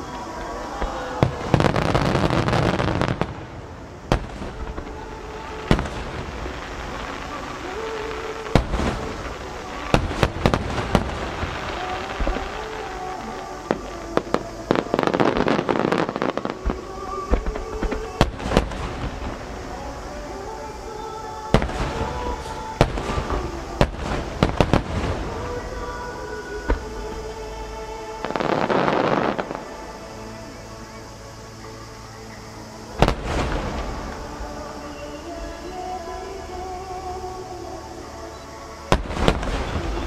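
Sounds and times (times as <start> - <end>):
music: 0.0 - 40.0.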